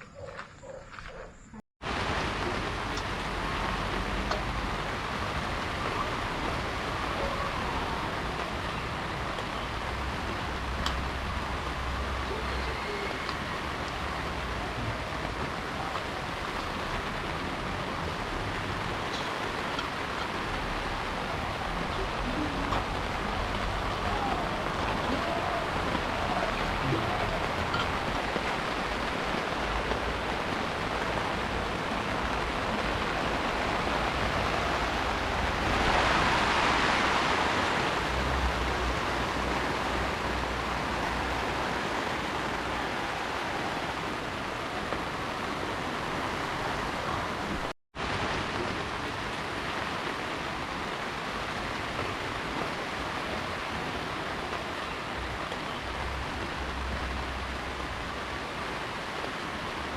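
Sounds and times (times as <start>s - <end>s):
heavy rain hiss: 1.8s - 59.9s.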